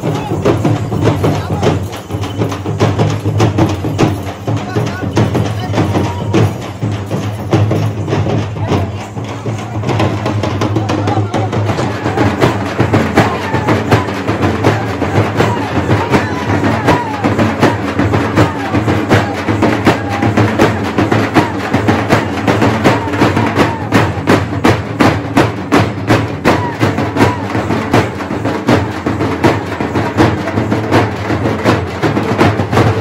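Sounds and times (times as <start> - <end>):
frame drums beaten fast: 0.0 - 33.0.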